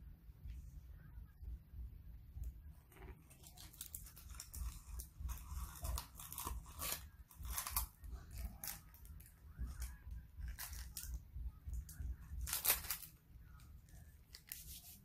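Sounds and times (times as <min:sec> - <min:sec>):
steady low hum: 0:00.0 - 0:15.0
crinkling and rustling: 0:02.8 - 0:15.0.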